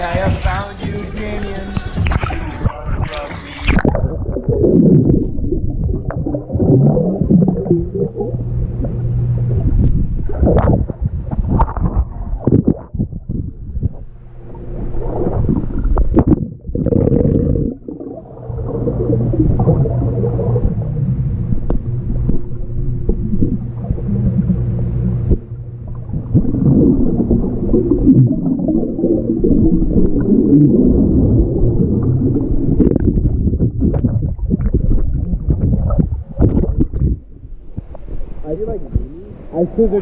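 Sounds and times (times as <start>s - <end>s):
steady low hum: 0.0s - 40.0s
underwater gurgling: 0.0s - 40.0s.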